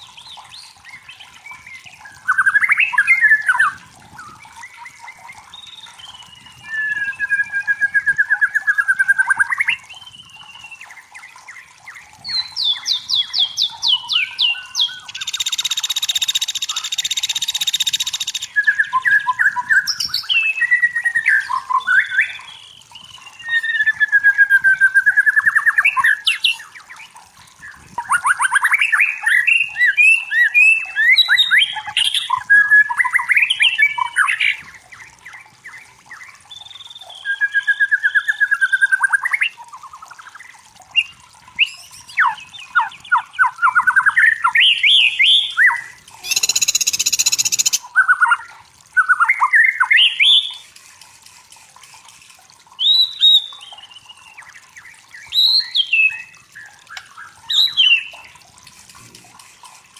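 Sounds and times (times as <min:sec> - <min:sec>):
songbird singing: 0:00.0 - 0:50.7, 0:52.7 - 0:58.3.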